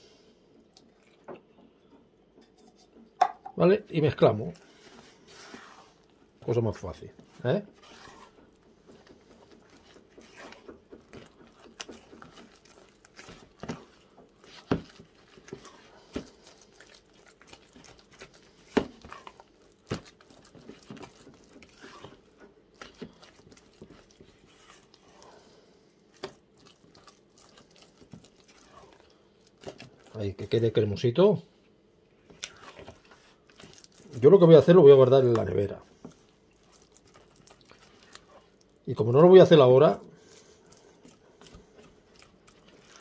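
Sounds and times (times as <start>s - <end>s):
spatula squelching batter: 3.9s - 43.0s.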